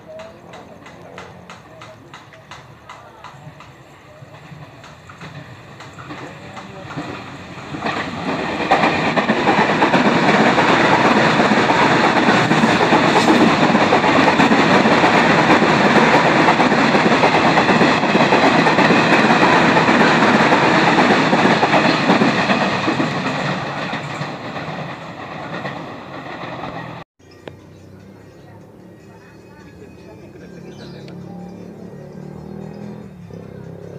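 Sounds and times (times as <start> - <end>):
electric train passing: 0.0 - 33.9.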